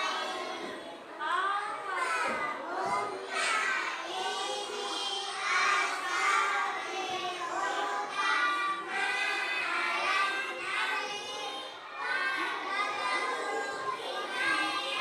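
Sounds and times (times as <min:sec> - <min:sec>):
young children's voices: 0:00.0 - 0:15.0.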